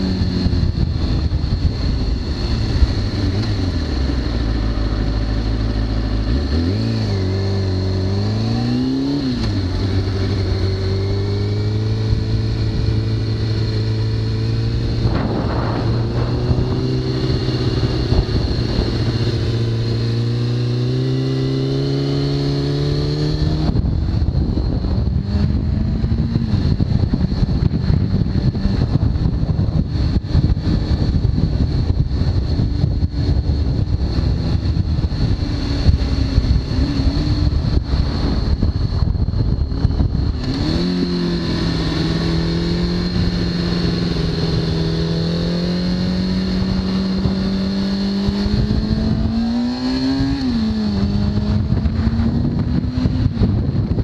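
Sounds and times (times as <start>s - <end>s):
motorcycle engine revving: 0.0s - 54.0s
wind buffeting microphone: 0.0s - 54.0s.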